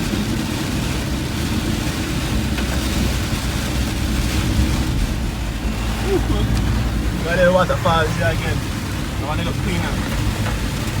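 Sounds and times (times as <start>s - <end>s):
car engine and road rumble: 0.0s - 11.0s
rain hissing on car: 0.0s - 11.0s.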